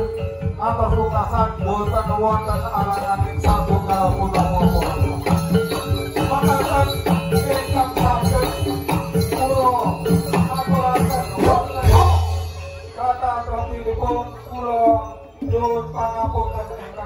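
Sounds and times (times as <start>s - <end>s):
rattling percussion: 0.0s - 17.0s
wavering melody line: 0.0s - 17.0s.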